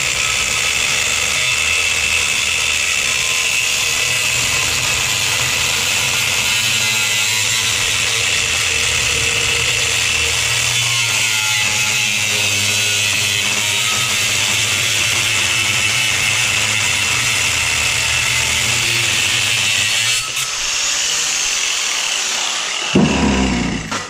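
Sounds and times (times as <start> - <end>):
angle grinder grinding metal: 0.0 - 24.0.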